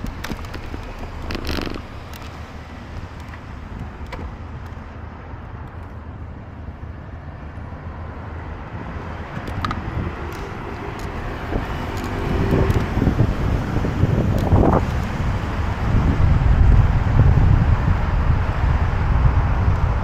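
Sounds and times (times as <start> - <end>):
traffic hum: 0.0 - 20.0.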